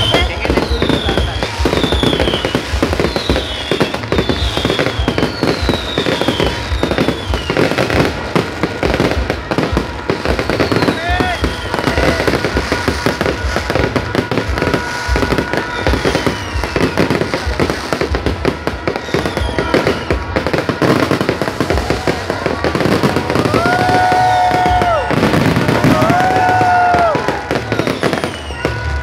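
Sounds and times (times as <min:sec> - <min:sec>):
falling firework whistles: 0:00.0 - 0:29.0
fireworks crackling and popping: 0:00.0 - 0:29.0
long horn-like tones: 0:00.0 - 0:29.0.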